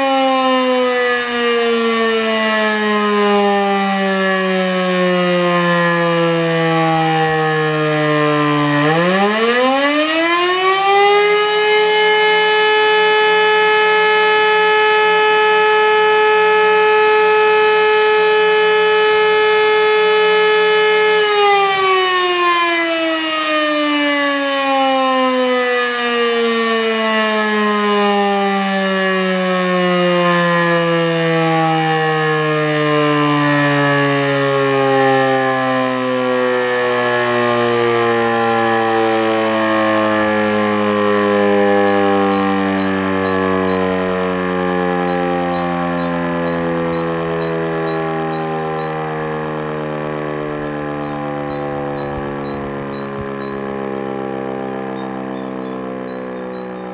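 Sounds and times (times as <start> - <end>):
electromechanical siren howling: 0.0 - 56.9.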